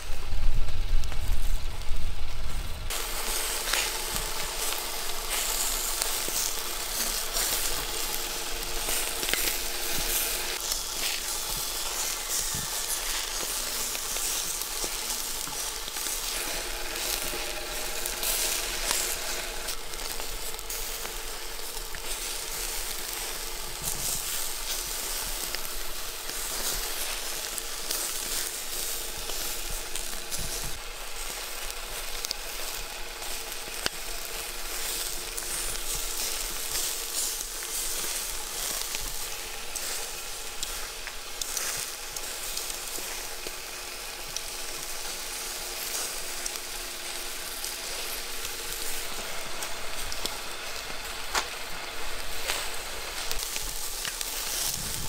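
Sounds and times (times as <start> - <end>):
meat sizzling on charcoal grill: 0.0 - 55.0.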